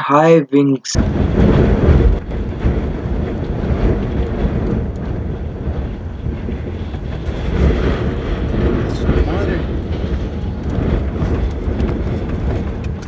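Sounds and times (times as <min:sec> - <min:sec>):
wind buffeting microphone: 0:01.0 - 0:13.0
highway traffic: 0:02.2 - 0:13.0.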